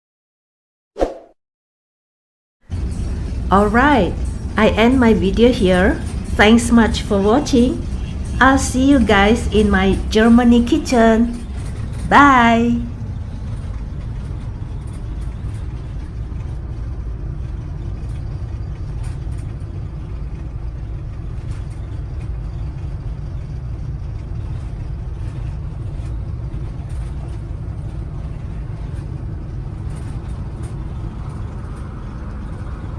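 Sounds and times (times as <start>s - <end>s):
steady low rumble: 2.7s - 32.9s.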